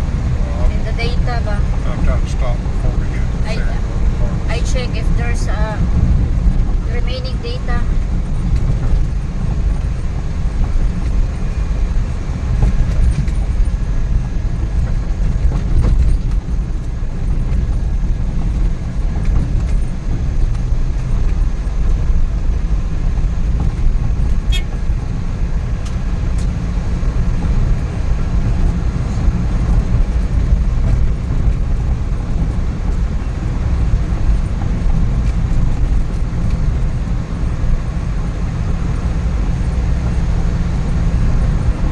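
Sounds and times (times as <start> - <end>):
road noise: 0.0 - 41.9
van engine running: 0.0 - 41.9.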